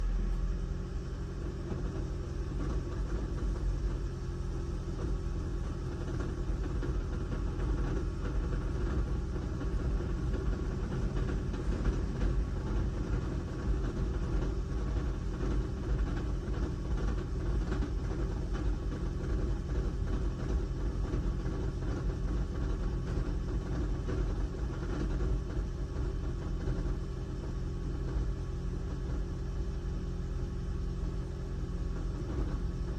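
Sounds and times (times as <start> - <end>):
car engine running with abnormal noise: 0.0 - 32.9.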